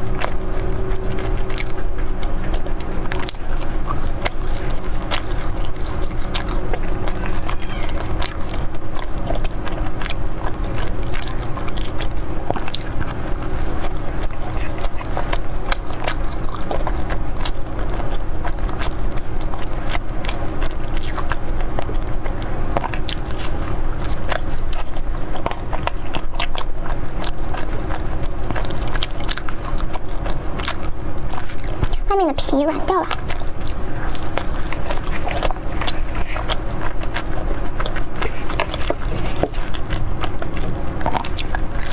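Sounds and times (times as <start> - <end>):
chewing and biting bread roll: 0.0 - 41.9
steady low hum: 0.0 - 41.9.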